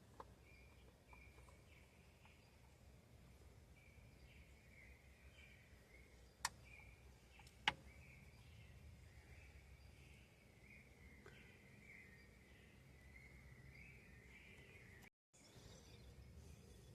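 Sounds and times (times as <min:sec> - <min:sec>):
faint chirping: 0:00.0 - 0:16.9.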